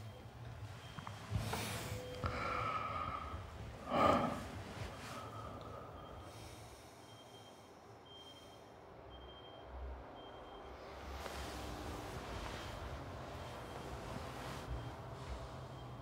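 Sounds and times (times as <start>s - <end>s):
soft breathing: 0.8s - 8.8s, 10.8s - 16.0s.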